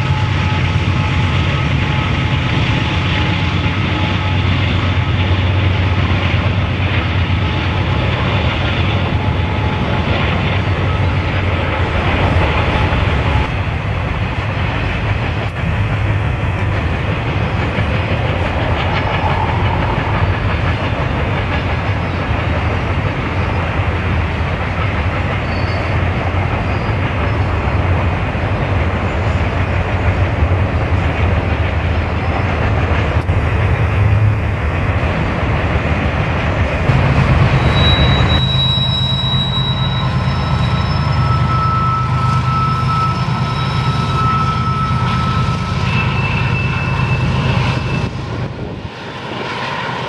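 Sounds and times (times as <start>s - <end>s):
freight train rumbling on rails: 0.0s - 50.0s.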